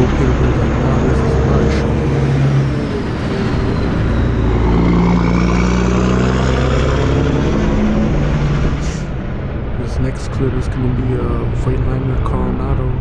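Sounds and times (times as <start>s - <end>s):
diesel truck engine: 0.0s - 13.0s
tyre and road noise: 0.0s - 13.0s.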